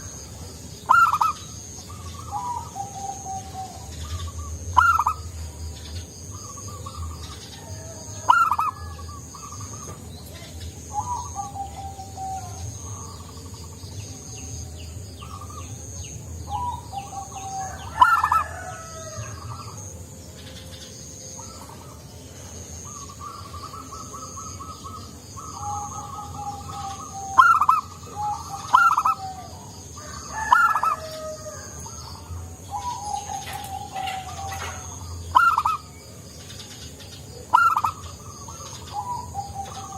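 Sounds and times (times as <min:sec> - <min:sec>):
dove cooing: 0:00.0 - 0:14.6, 0:15.2 - 0:36.0, 0:36.6 - 0:39.9.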